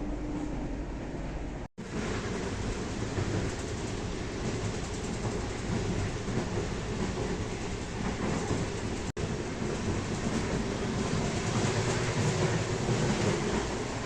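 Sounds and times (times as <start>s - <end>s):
train rumbling with rail clatter: 0.0s - 14.0s.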